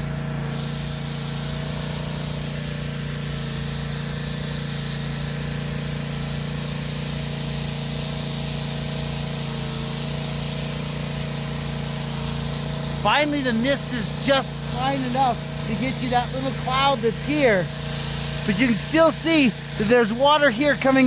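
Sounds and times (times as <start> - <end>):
motor humming: 0.0 - 21.0
pressure washer spray hissing: 0.0 - 21.0.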